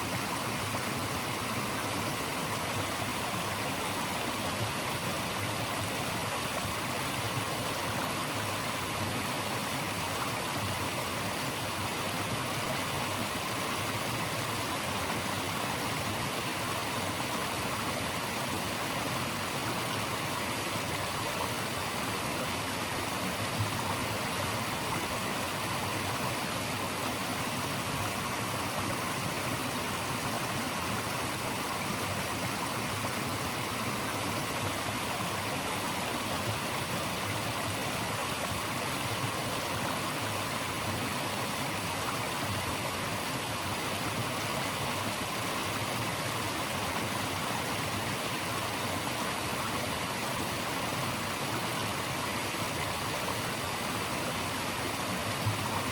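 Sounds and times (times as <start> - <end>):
flowing water rushing: 0.0 - 55.9.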